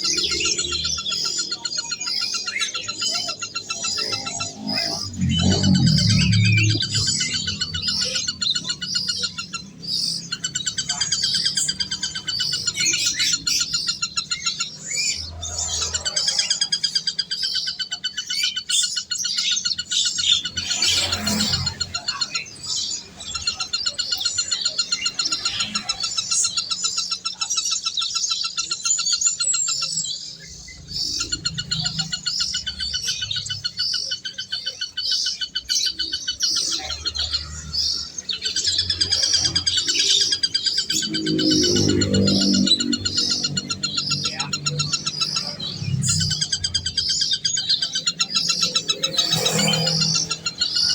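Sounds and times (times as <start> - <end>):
small birds chirping and trilling: 0.0 - 50.9.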